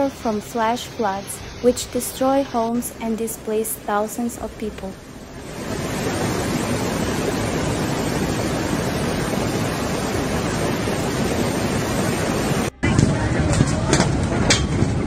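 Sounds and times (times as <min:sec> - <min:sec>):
torrent of water rushing: 0:00.0 - 0:12.7.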